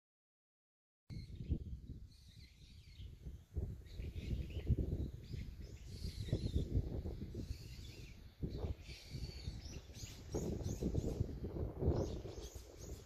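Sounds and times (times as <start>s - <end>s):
birds chirping faintly: 1.1s - 13.0s
wind gusts on microphone: 1.1s - 13.0s.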